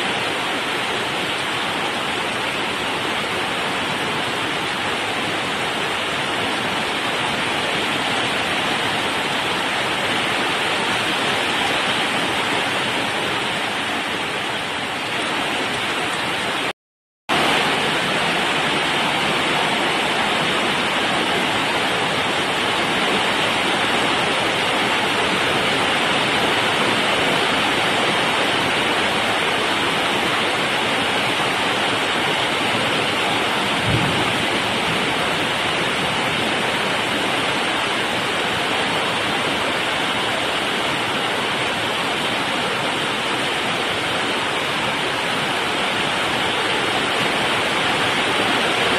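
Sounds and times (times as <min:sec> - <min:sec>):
heavy rain pouring: 0:00.0 - 0:16.7, 0:17.3 - 0:48.9.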